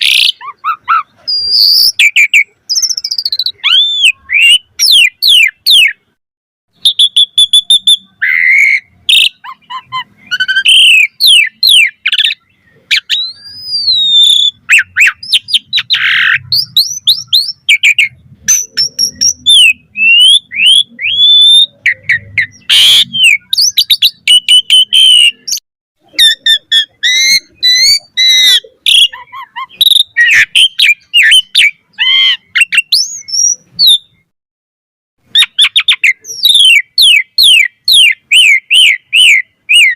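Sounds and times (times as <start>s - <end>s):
starling singing whistles: 0.0s - 6.0s, 6.8s - 34.3s, 35.3s - 39.9s.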